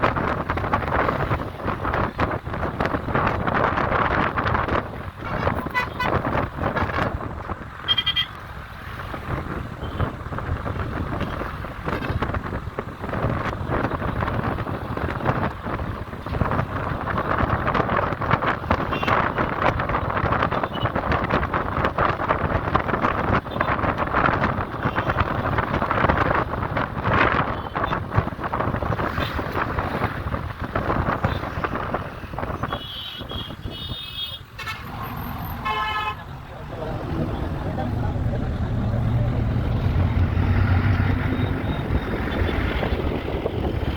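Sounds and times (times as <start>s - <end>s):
road traffic passing: 0.0s - 43.9s
wind buffeting microphone: 0.0s - 43.9s.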